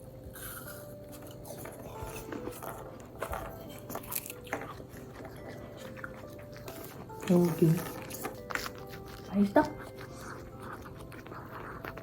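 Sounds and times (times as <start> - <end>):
apple being bitten and chewed: 0.0 - 12.0.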